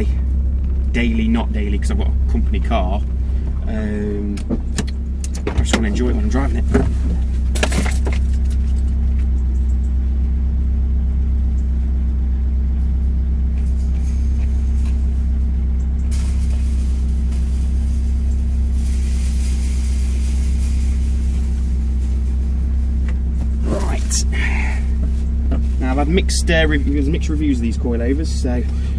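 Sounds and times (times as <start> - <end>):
car engine droning in cabin: 0.0 - 28.9.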